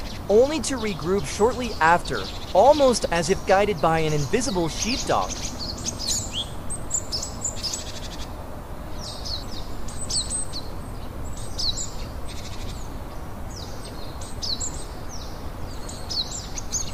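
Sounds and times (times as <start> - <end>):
small birds chirping: 0.0 - 8.3, 8.9 - 16.9
steady low background noise: 0.0 - 16.9.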